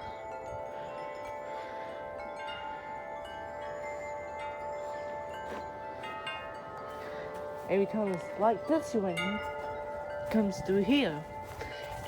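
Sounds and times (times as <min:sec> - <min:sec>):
tubular wind chimes ringing: 0:00.0 - 0:12.0.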